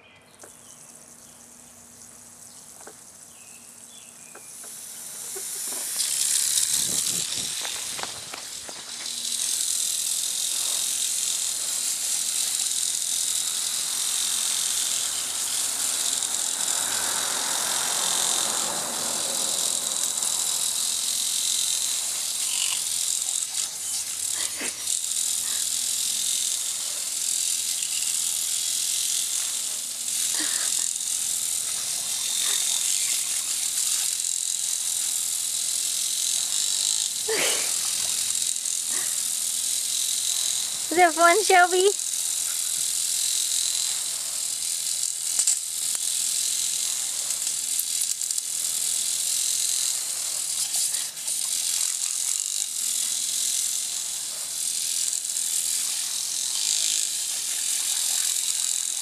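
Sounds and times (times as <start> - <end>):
lawn sprinkler hissing: 0.4 - 59.0.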